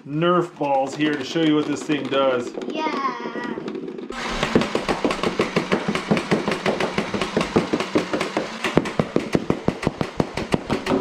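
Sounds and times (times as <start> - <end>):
flywheel motor whir: 0.6 - 11.0
toy blaster firing rapidly: 1.3 - 11.0.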